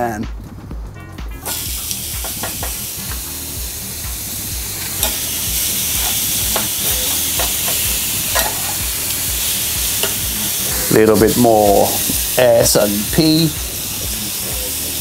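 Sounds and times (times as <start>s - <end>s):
steak sizzling in a grill pan: 1.4s - 15.0s.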